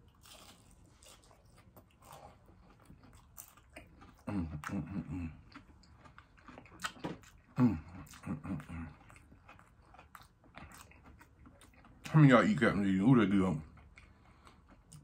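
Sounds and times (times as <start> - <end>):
crunching and chewing fried shrimp: 0.0 - 15.0.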